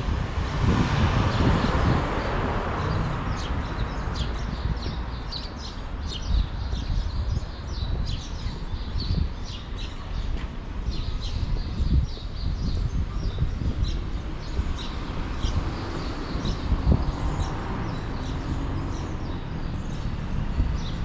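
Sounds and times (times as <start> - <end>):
low rumble of street noise: 0.0 - 21.0
small birds chirping: 1.3 - 21.0.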